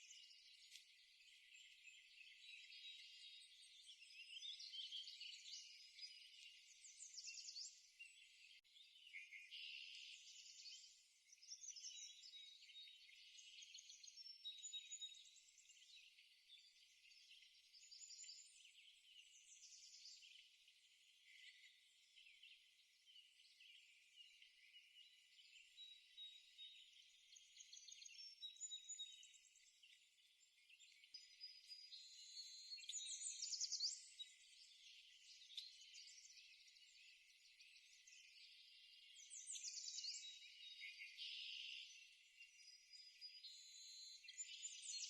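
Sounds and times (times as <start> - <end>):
songbirds chirping and trilling: 0.0 - 45.0.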